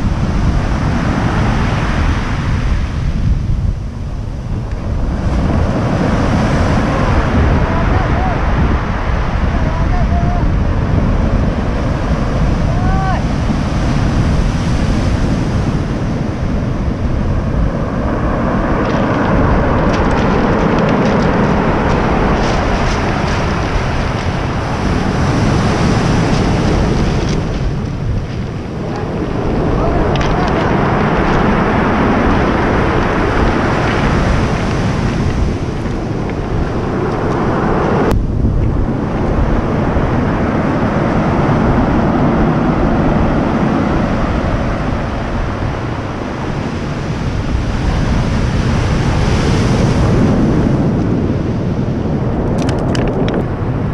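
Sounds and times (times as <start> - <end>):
surf breaking on pebble beach: 0.0 - 3.5, 4.3 - 53.9
wind buffeting microphone: 0.0 - 53.9.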